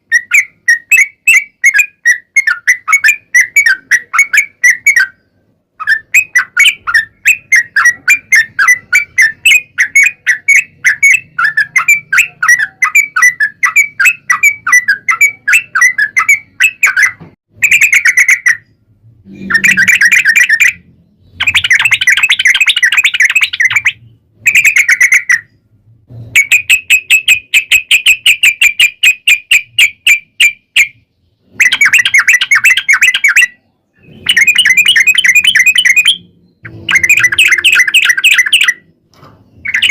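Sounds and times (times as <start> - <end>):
bulbul chattering and trilling: 0.0 - 25.6, 26.4 - 38.9, 39.6 - 39.9.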